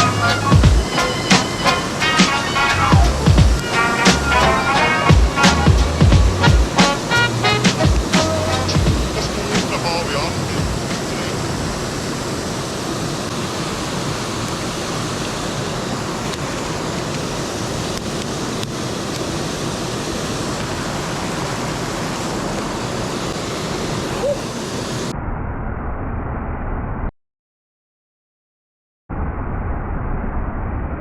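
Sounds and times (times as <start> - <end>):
mountain stream rushing: 0.0 - 25.1.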